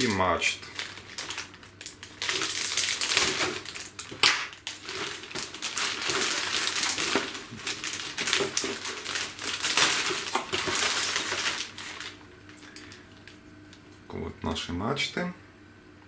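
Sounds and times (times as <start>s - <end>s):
plastic pieces clattering: 0.0s - 13.0s
plastic bag crinkling: 0.0s - 13.4s.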